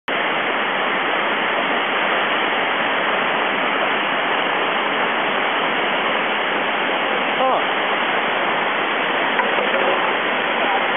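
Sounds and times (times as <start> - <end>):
whitewater rushing: 0.1 - 10.9.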